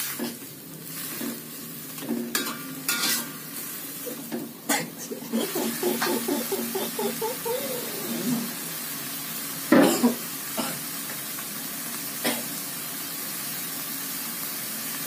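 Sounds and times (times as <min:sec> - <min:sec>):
vegetables sizzling in a wok: 0:00.0 - 0:05.3, 0:07.5 - 0:15.0.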